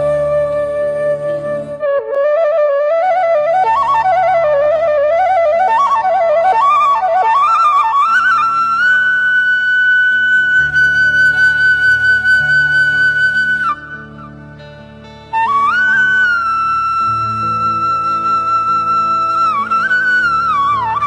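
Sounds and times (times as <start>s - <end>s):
flute melody: 0.0s - 21.0s
low accompaniment: 0.0s - 21.0s.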